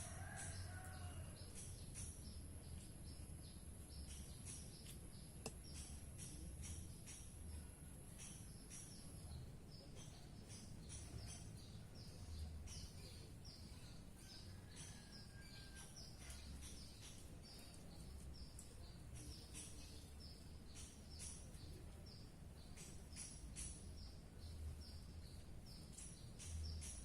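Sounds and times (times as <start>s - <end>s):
low steady background hum: 0.0s - 27.0s.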